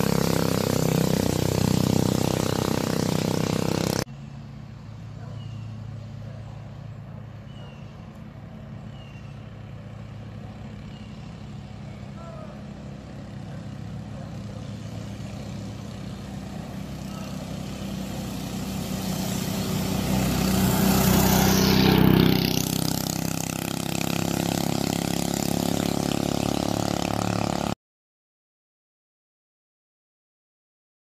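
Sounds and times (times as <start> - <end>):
mini bike engine running: 0.0 - 27.8.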